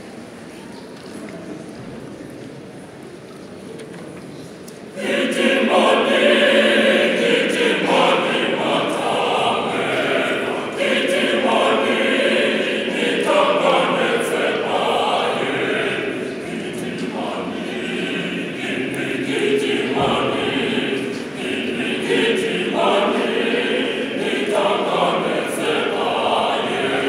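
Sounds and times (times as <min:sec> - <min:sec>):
low background noise: 0:00.0 - 0:27.0
mixed choir singing unaccompanied: 0:04.9 - 0:27.0.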